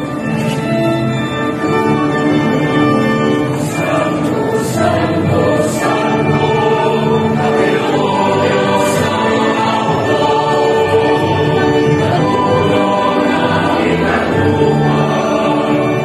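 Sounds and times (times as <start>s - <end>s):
choir singing a slow hymn: 2.5s - 16.0s.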